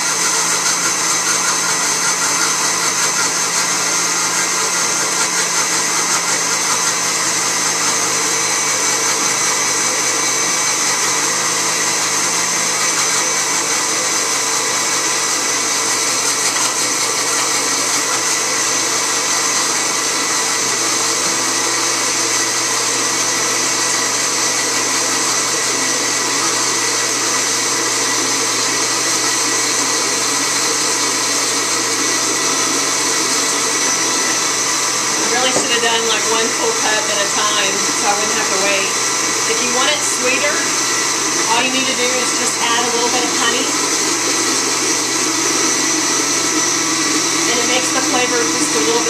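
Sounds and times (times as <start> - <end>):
blender motor running: 0.0 - 49.0.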